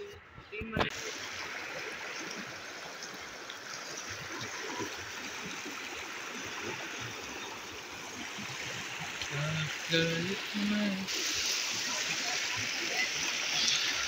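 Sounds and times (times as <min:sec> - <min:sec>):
stream rushing over stones: 0:00.7 - 0:14.0.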